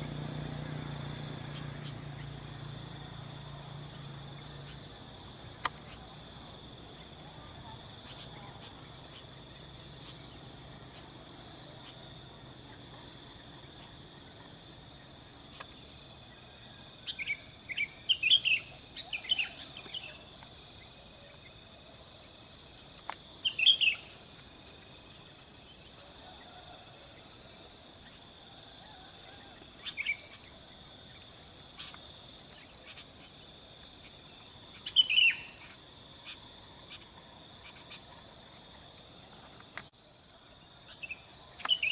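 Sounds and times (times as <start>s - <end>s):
insect chorus pulsing buzz: 0.0s - 41.9s.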